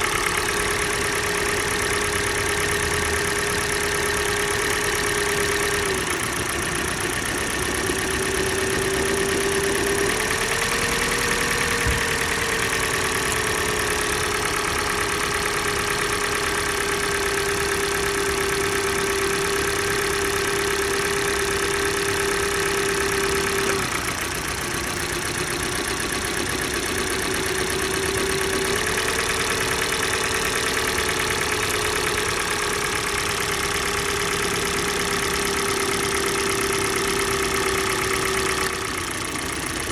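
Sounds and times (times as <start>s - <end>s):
car engine idling with a knock: 0.0s - 39.9s.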